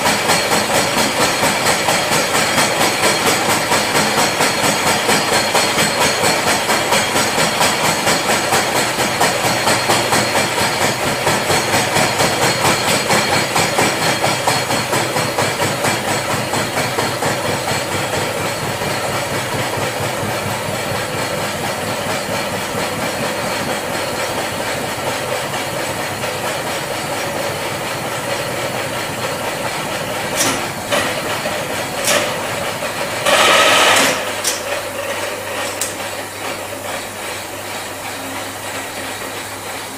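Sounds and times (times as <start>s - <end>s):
milling machine grinding metal: 0.0s - 39.9s.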